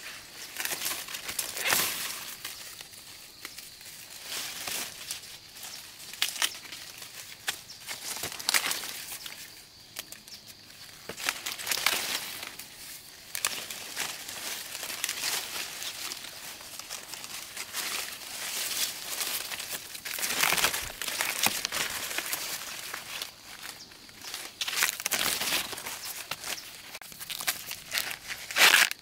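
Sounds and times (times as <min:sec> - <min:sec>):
dry material crinkling and rustling: 0:00.0 - 0:29.0.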